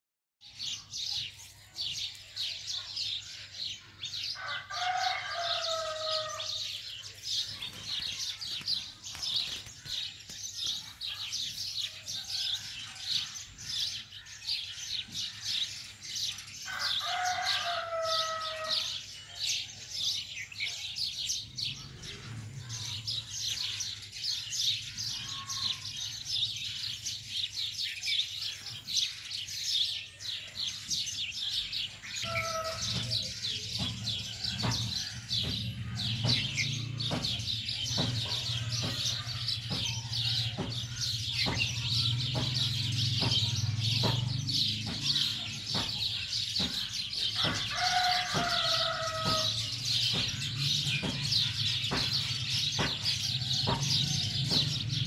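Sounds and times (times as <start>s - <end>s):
small birds chirping: 0.4s - 55.0s.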